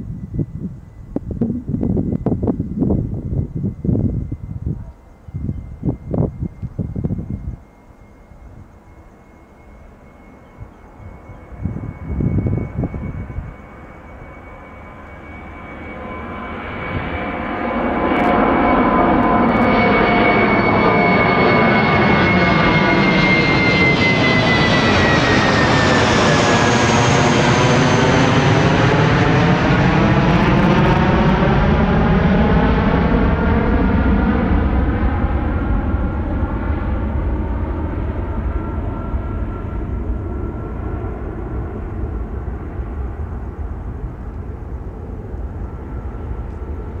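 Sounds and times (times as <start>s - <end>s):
faint steady whine: 0.0s - 25.4s, 34.4s - 47.0s
jet engines at take-off: 0.0s - 47.0s.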